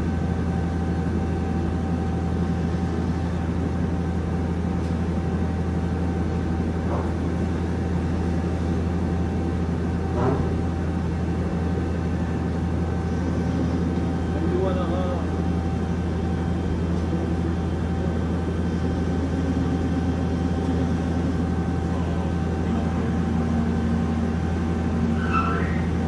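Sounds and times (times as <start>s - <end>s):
lathe humming and whining: 0.0s - 26.0s.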